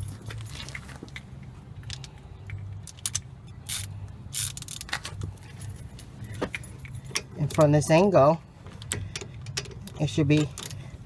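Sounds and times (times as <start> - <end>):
metallic clicks and rattles of tools: 0.0 - 8.1, 8.7 - 10.9.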